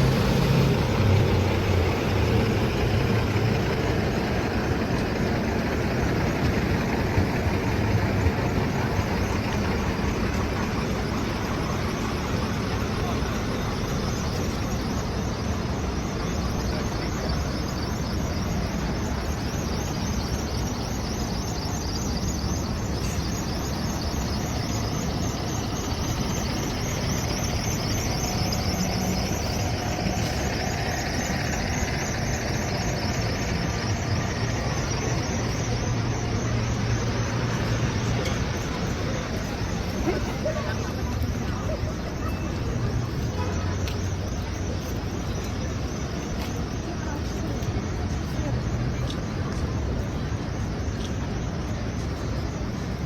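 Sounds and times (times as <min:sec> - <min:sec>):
nearby vehicle engine hum: 0:00.0 - 0:53.0
passing cars and trucks: 0:00.0 - 0:53.0.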